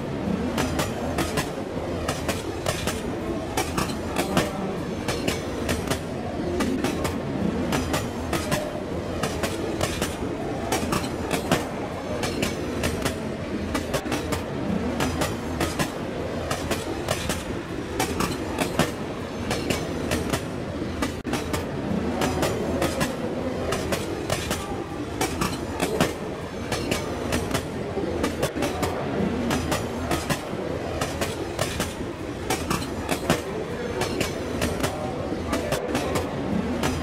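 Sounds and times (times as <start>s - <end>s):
model train rolling: 0.0s - 37.0s
wheels clicking on rails: 0.0s - 37.0s.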